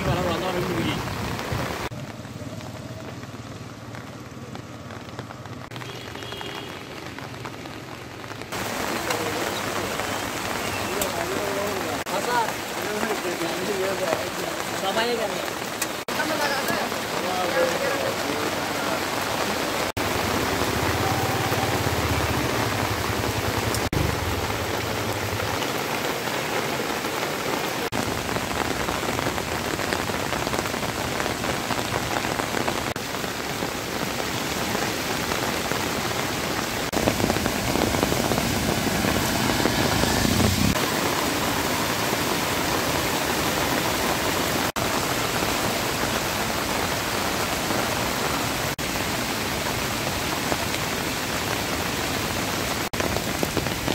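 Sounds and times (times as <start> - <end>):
vehicles driving through water: 0.0 - 27.9, 30.5 - 53.9
heavy rain pouring: 0.0 - 53.9.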